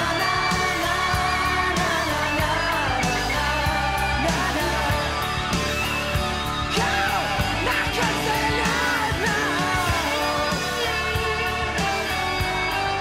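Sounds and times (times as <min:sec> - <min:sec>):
song with guitar backing: 0:00.0 - 0:13.0.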